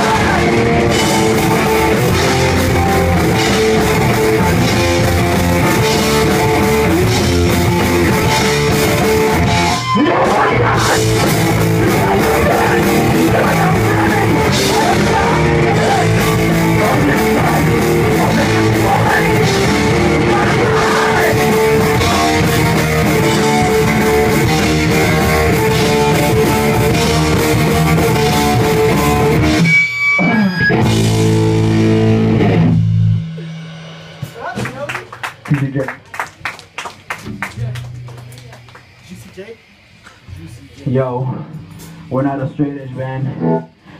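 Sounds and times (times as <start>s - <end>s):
live rock band playing: 0.0s - 39.0s, 41.3s - 42.3s.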